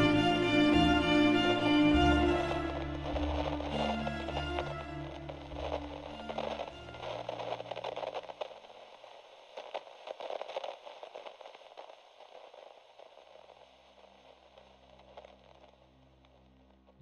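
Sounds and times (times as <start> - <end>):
crackling radio static: 1.5 - 17.0.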